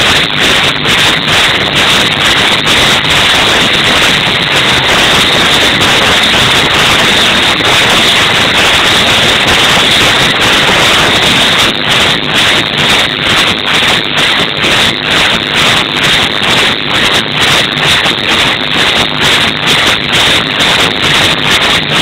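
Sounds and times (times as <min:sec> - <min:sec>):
distorted loud electronic music: 0:00.0 - 0:22.0.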